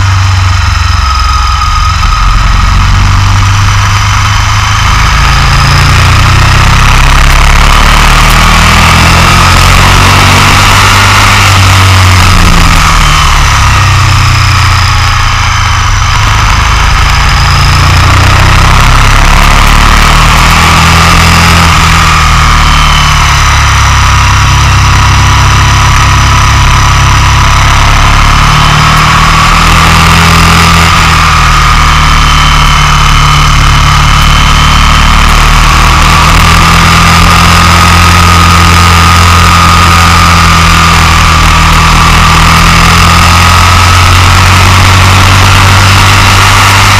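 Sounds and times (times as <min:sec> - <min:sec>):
motorcycle engine at speed: 0:00.0 - 0:46.9.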